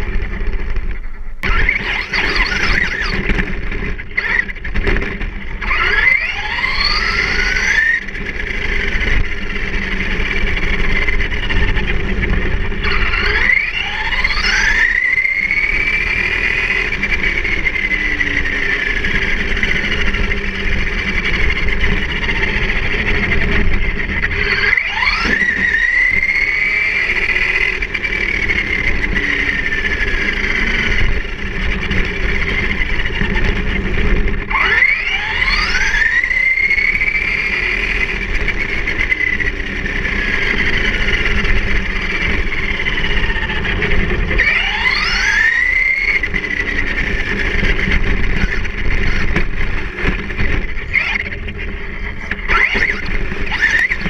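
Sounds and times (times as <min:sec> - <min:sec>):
electric motor whining: 0:00.0 - 0:54.0
tyres rumbling on asphalt: 0:00.0 - 0:54.0.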